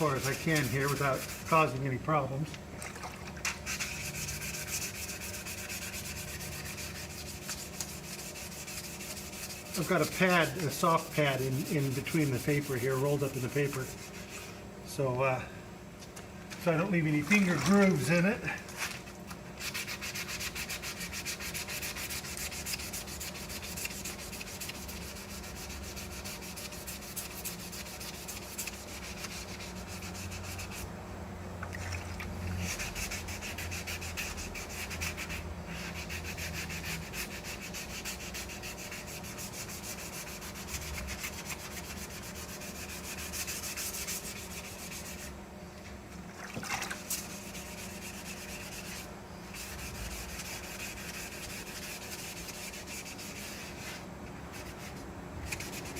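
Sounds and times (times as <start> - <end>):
hand sanding strokes: 0.0 - 2.3, 3.5 - 14.7, 16.6 - 19.0, 19.6 - 30.9, 32.4 - 45.5, 47.0 - 55.9.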